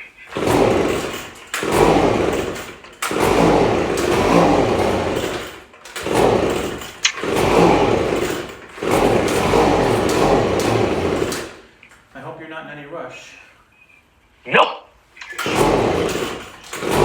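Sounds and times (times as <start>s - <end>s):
leaf blower engine pull-start cranking: 0.2s - 12.0s, 15.2s - 17.0s.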